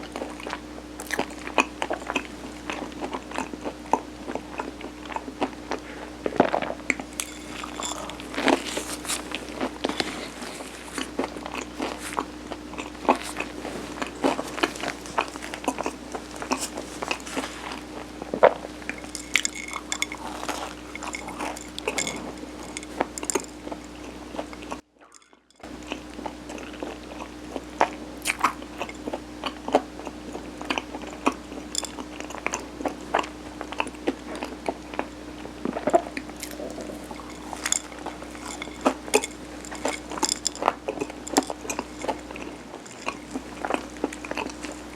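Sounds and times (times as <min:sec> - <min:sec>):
chewing sticky food: 0:00.0 - 0:44.9
faint steady hum: 0:00.0 - 0:44.9.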